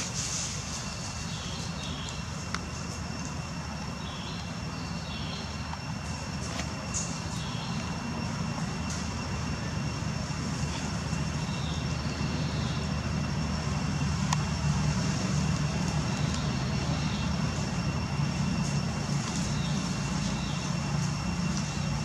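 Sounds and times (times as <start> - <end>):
low motor drone: 0.0 - 22.0
thin high whine: 0.0 - 22.0.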